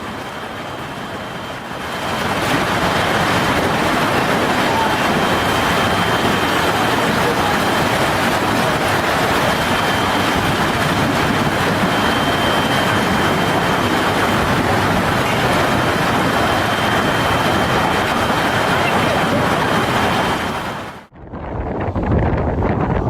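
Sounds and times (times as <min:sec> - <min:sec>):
faint high whine: 0:00.0 - 0:21.1
heavy rain: 0:00.0 - 0:21.1
storm wind roaring: 0:00.0 - 0:23.0.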